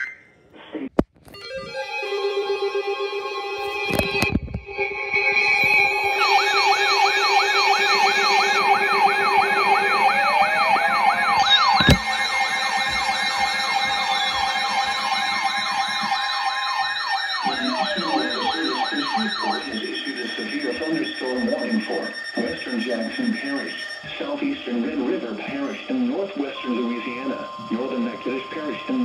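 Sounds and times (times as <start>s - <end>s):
electronic siren fast yelp: 0.0s - 0.4s, 5.3s - 29.0s
slower gliding siren tone: 4.9s - 29.0s.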